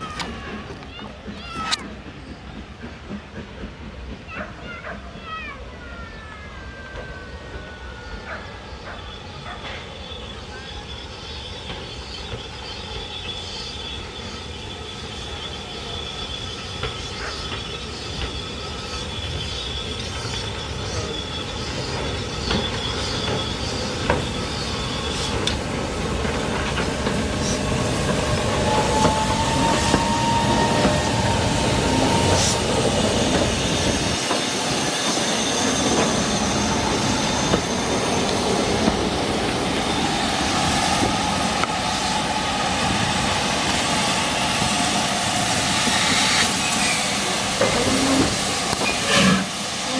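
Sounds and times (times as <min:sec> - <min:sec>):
train wheels squealing on rails: 0:00.0 - 0:49.9.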